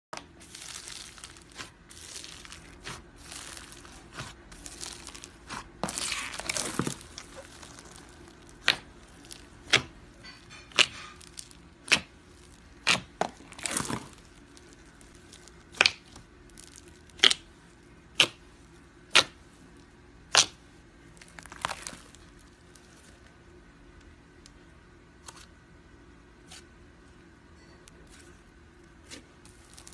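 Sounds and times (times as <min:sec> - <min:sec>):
slime crackling and squishing: 0:00.2 - 0:23.4, 0:28.1 - 0:29.9.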